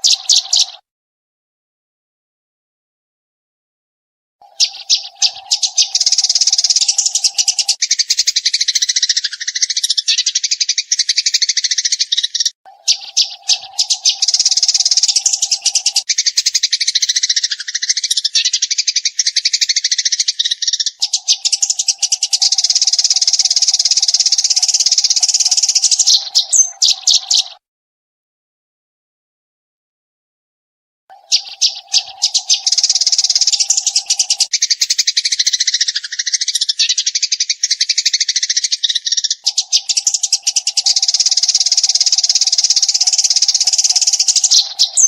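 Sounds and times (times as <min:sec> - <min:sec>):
sparrows chirping: 0:00.0 - 0:00.8, 0:04.4 - 0:27.6, 0:31.1 - 0:45.0.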